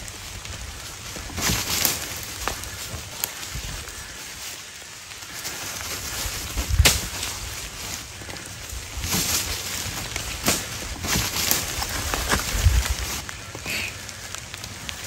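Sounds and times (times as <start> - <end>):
dry leaves and twigs crackling: 0.0 - 15.0.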